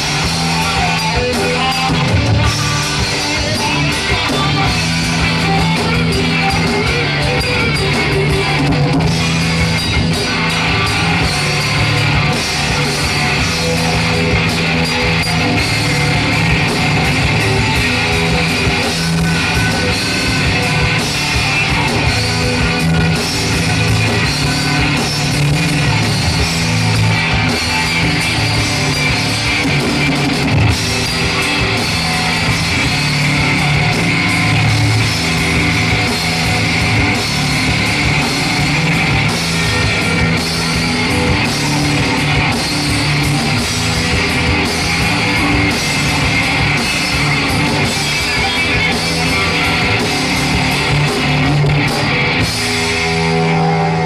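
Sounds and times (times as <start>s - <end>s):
bass guitar: 0.0s - 54.0s
distorted electric guitars: 0.0s - 54.0s
drum kit: 0.0s - 54.0s.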